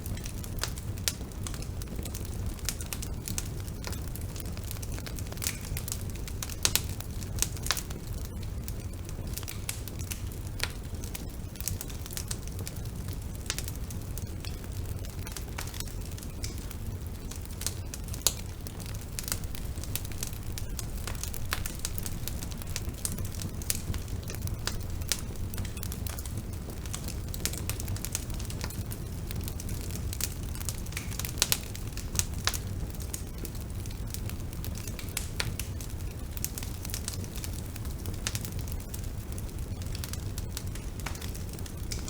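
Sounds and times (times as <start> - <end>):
bonfire flames rumbling: 0.0 - 42.0
burning wood crackling and popping: 0.0 - 42.0.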